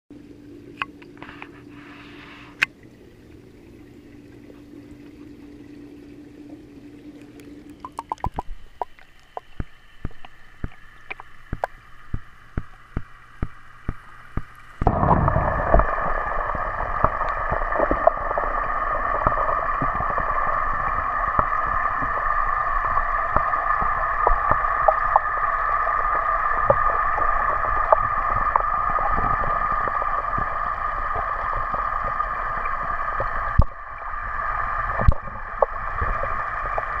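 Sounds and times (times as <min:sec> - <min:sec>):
underwater rush and hum: 0:00.1 - 0:37.0.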